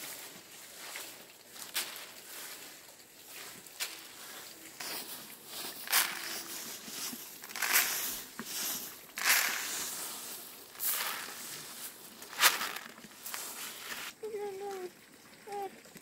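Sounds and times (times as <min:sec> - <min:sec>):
corn kernels rustling on plastic tarp: 0:00.0 - 0:15.7.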